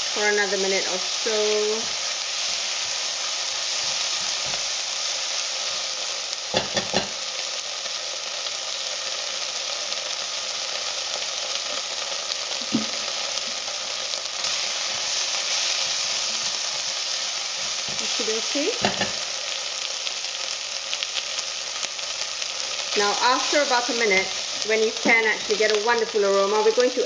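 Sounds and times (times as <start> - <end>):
onions sizzling in a saucepan: 0.0 - 27.0.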